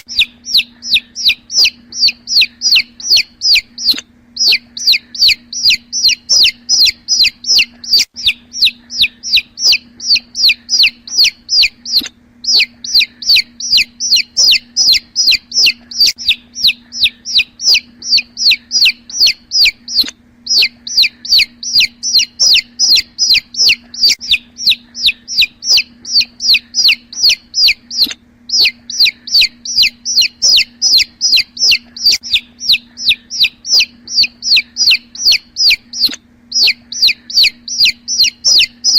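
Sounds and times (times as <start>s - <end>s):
chicks peeping: 0.0s - 38.9s
faint low hum: 0.0s - 38.9s.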